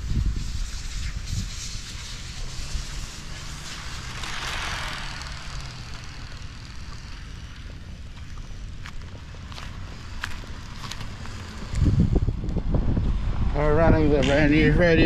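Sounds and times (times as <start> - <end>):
rc car motor hissing: 0.0 - 12.4
tyre noise on asphalt: 0.0 - 13.2.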